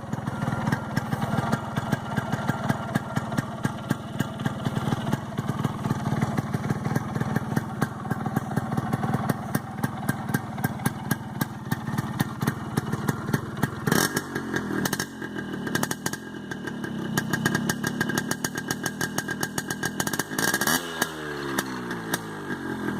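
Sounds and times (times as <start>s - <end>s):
two-stroke engine idling and revving: 0.0s - 22.9s.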